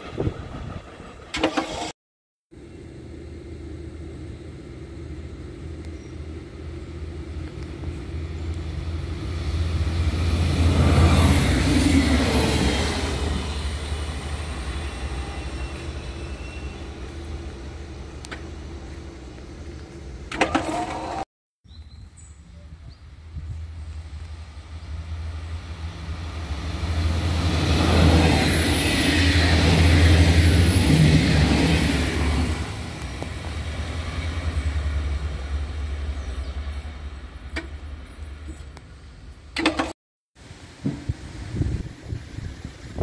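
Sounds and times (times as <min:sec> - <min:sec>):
train passing: 0:00.0 - 0:01.8, 0:02.6 - 0:20.4, 0:22.7 - 0:39.6.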